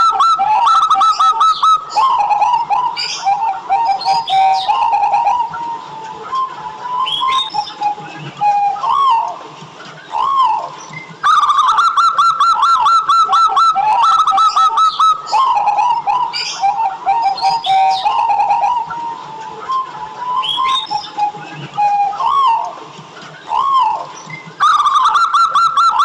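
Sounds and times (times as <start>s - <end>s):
doves cooing: 0.0s - 26.0s.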